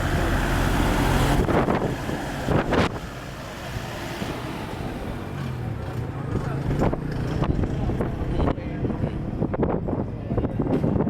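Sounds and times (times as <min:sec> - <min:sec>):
vehicle engine humming: 0:00.0 - 0:11.0
wind buffeting microphone: 0:00.0 - 0:11.0.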